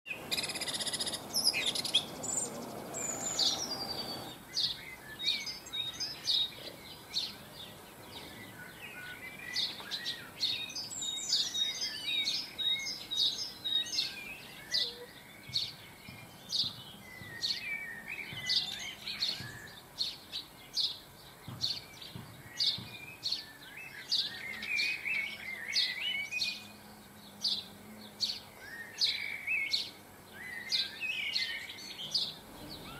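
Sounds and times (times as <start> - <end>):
birds twittering: 0.1 - 32.9
songbird chirps: 0.1 - 32.9.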